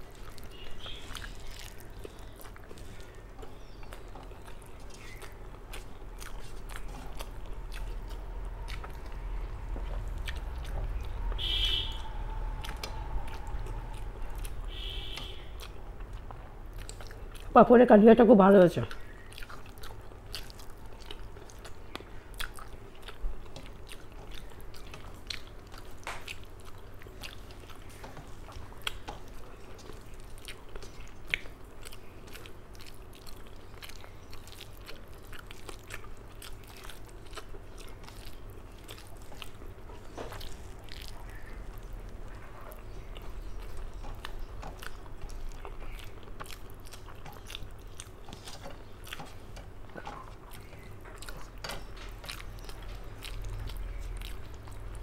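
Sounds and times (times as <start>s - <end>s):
person chewing: 0.0s - 17.6s, 18.8s - 55.0s.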